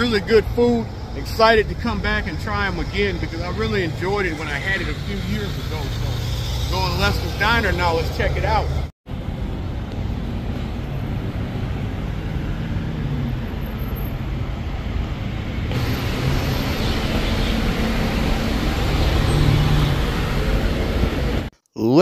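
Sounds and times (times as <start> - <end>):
road traffic rumble and hiss: 0.0 - 21.5.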